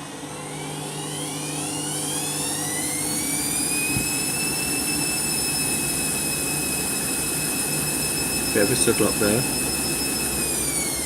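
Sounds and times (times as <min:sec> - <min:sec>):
washing machine spinning up: 0:00.0 - 0:11.0.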